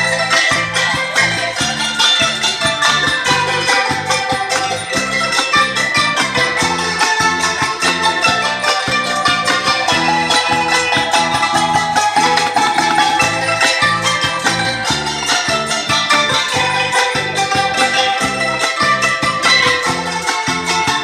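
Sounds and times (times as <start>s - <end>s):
low bass beat: 0.0s - 20.8s
plucked lute: 0.0s - 21.0s
wooden bar keyboards struck: 0.0s - 21.0s.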